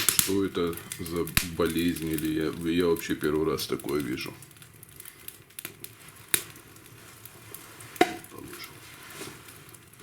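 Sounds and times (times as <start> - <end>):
fire crackling and popping: 0.0 - 10.0
fire hissing: 0.0 - 10.0.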